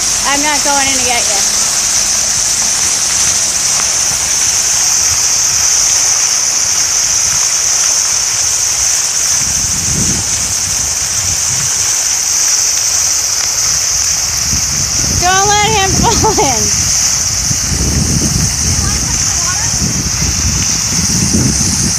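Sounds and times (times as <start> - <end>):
fountain water splashing into basin: 0.0 - 21.9.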